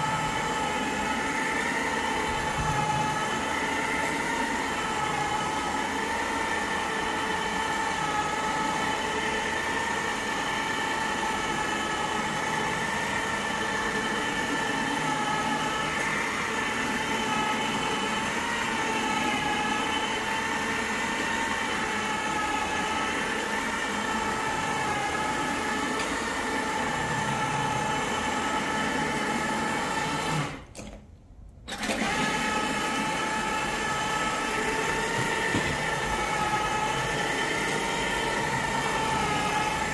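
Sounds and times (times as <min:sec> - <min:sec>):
carpet cleaner motor whine: 0:00.0 - 0:31.0, 0:31.7 - 0:39.9.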